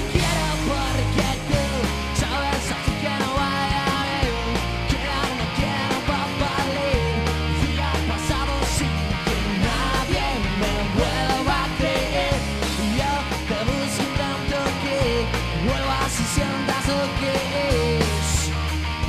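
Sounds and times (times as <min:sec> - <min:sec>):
man singing: 0:00.0 - 0:18.6
live rock band: 0:00.0 - 0:19.0.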